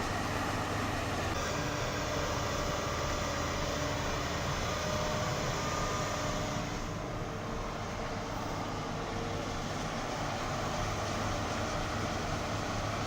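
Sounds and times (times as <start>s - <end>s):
diesel engine and hydraulics: 0.0s - 13.0s.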